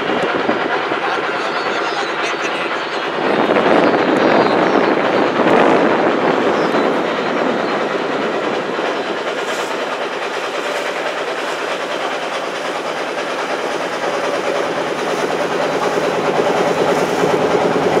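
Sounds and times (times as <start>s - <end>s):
boat engine chugging: 0.0s - 18.0s.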